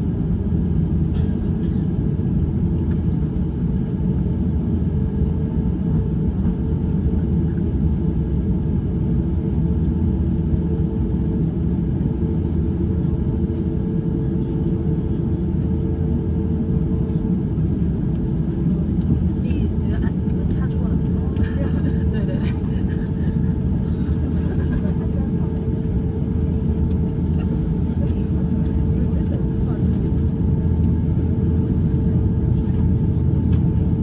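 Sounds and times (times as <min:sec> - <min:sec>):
airplane cabin rumble: 0:00.0 - 0:34.0.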